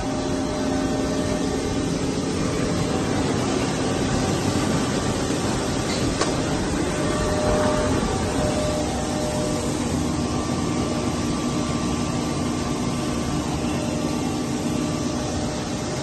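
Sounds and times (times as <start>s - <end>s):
recycling machine running: 0.0s - 16.0s.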